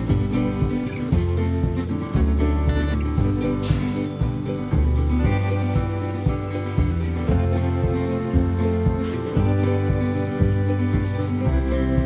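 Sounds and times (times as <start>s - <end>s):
melodic music over bass line: 0.0s - 12.0s.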